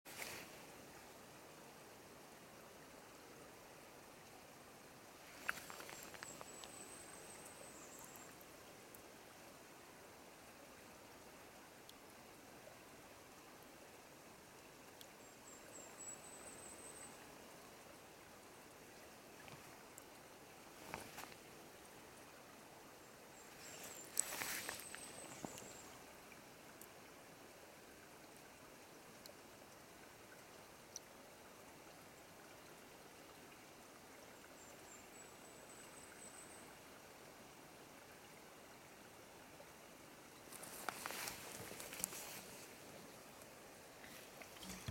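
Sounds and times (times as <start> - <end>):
stream trickling: 0.1 - 44.9.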